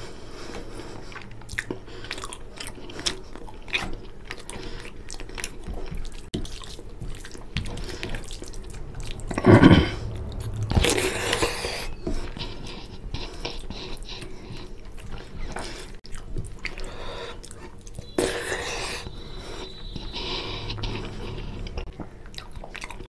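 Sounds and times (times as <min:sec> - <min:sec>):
chewing and biting: 0:00.3 - 0:23.0.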